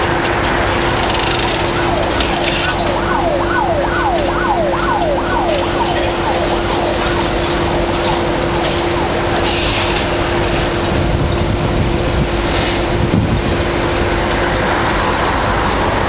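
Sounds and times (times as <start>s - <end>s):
emergency siren wailing: 0.0s - 16.0s
excavator engine and hydraulic drone: 0.0s - 16.0s.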